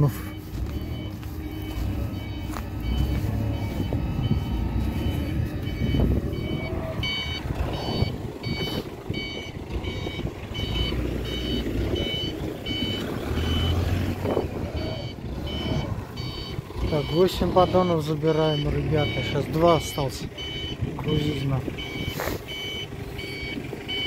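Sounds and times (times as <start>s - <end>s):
reversing alarm beeping: 0.0s - 24.0s
truck engine running: 0.0s - 24.0s.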